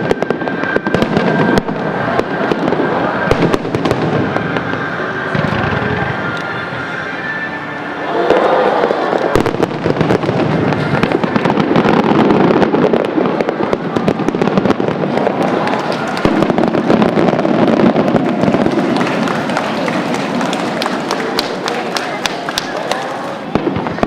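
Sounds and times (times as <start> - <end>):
fireworks crackling: 0.0 - 24.0
loud fireworks bangs: 0.0 - 24.0.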